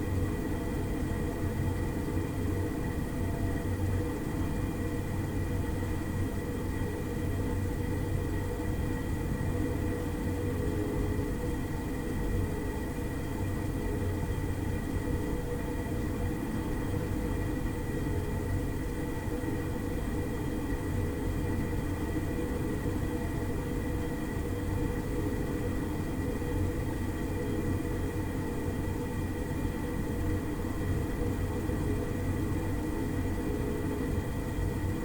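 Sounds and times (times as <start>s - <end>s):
gas oven rumbling and humming: 0.0s - 35.0s.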